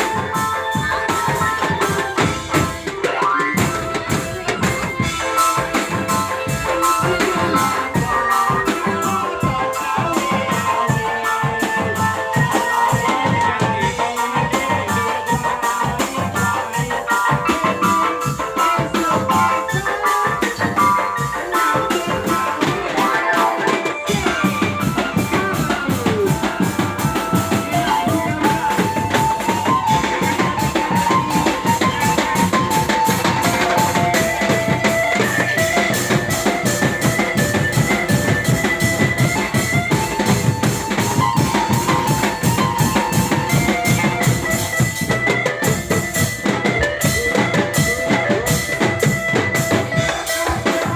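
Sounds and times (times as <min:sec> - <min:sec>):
drum band music: 0:00.0 - 0:50.9.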